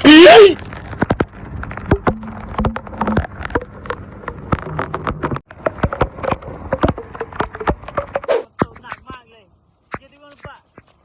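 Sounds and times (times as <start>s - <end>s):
raindrops tapping on a surface: 0.0s - 11.0s.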